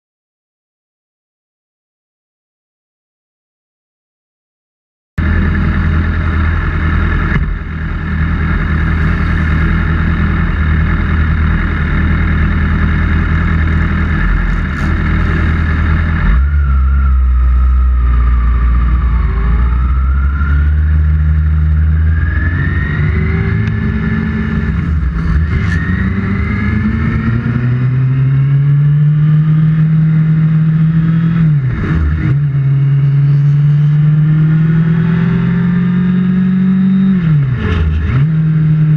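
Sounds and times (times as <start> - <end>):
motorcycle engine revving: 5.2 - 38.9.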